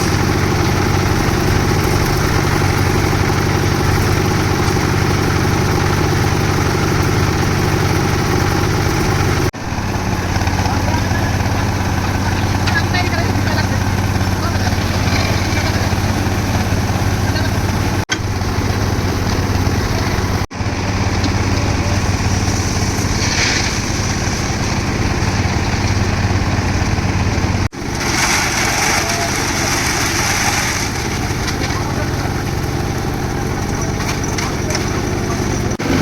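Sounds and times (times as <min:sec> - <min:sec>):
concrete mixer engine drone: 0:00.0 - 0:36.0.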